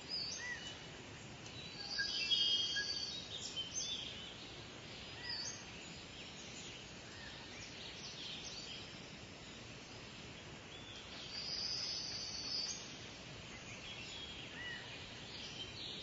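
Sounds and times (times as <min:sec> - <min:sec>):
outdoor background hiss: 0:00.0 - 0:16.0
small birds chirping: 0:00.0 - 0:16.0.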